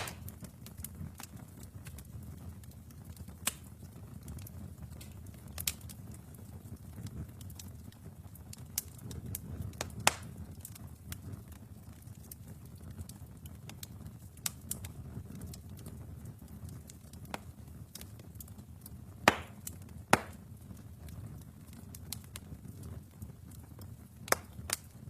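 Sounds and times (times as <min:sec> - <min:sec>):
fireplace fire crackling: 0:00.0 - 0:25.0.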